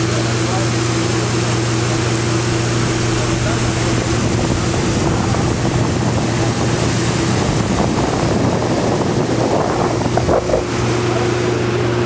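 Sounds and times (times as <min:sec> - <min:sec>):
motorboat engine humming: 0:00.0 - 0:12.0
wind noise on microphone: 0:00.9 - 0:12.0.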